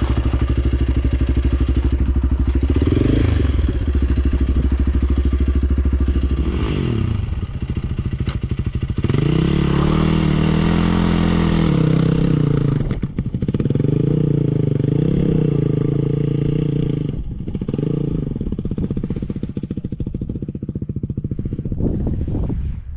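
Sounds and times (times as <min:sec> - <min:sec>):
motorcycle engine revving: 0:00.0 - 0:22.5.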